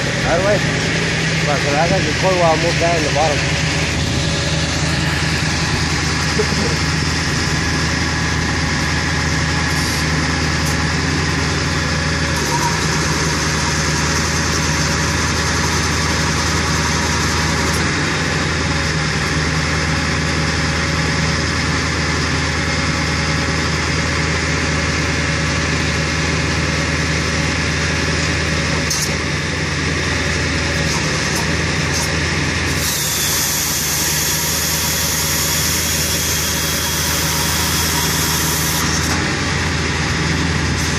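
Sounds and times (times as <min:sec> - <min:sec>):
truck engine at raised idle: 0:00.0 - 0:40.9.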